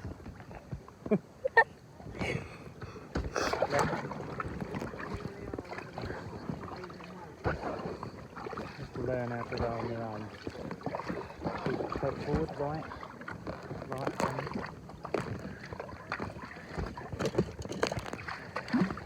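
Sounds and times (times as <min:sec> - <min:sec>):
kayak paddle splashing: 0:00.0 - 0:19.0
water sloshing against boat: 0:00.0 - 0:19.0.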